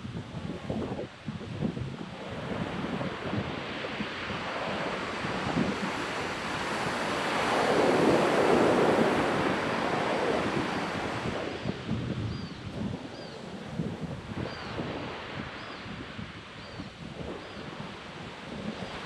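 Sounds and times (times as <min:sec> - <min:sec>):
ocean surf on a beach: 0:00.0 - 0:19.0
wind buffeting microphone: 0:00.0 - 0:19.0.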